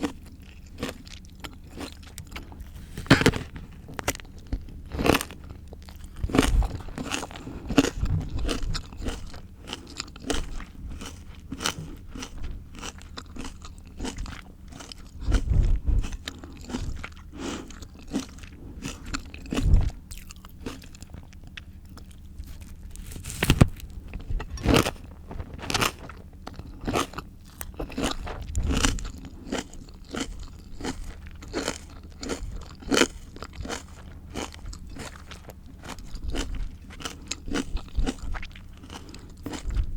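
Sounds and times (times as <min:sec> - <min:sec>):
crunchy chewing of raw fruit: 0:00.0 - 0:39.9.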